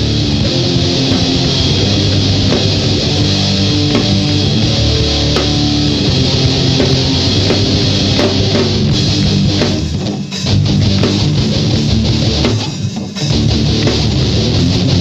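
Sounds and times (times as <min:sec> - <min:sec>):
drum kit: 0:00.0 - 0:15.0
electric guitars: 0:00.0 - 0:15.0.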